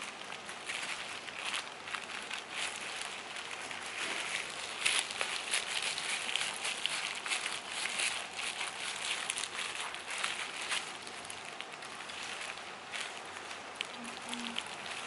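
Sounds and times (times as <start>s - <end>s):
plastic gloves crinkling: 0.0s - 15.0s.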